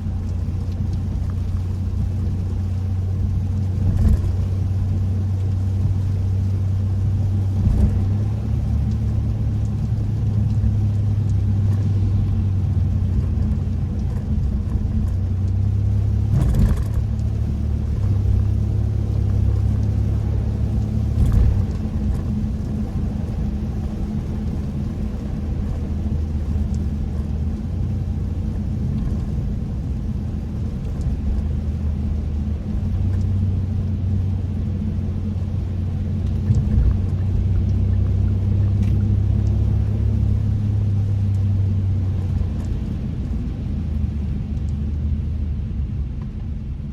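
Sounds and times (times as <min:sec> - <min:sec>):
tyre noise on wet road: 0:00.0 - 0:46.9.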